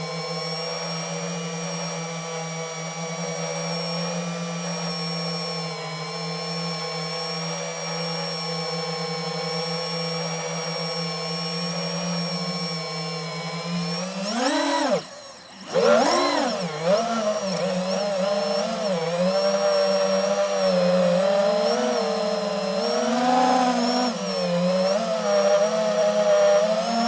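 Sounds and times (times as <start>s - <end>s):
drone propellers whining: 2.4s - 27.0s.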